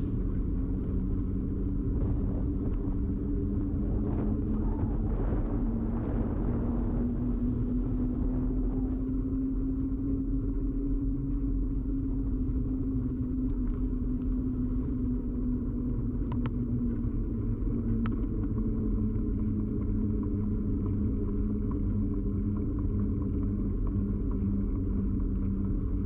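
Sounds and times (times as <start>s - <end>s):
bicycle ride rumble: 0.0s - 26.0s.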